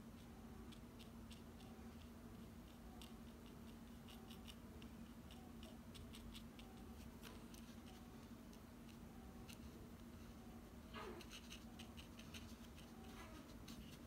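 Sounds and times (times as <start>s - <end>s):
paintbrush ticking on paper: 0.0s - 10.2s, 11.2s - 14.0s
low steady hum: 0.0s - 14.0s.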